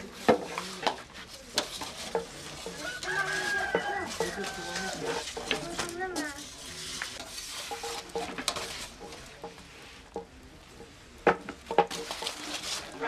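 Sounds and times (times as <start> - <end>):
light scrapes and clinks: 0.0 - 13.0
wood fire crackling: 0.0 - 13.0.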